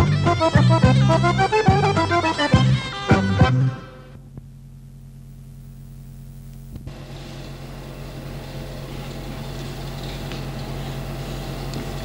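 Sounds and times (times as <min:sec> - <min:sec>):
electrical hum: 0:00.0 - 0:12.0
film soundtrack hiss: 0:00.0 - 0:12.0.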